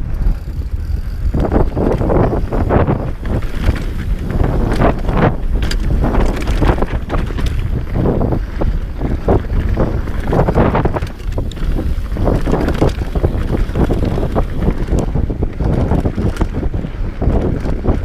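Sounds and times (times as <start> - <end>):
motorcycle engine rumble: 0.0 - 18.0
wind buffeting microphone: 0.0 - 18.0.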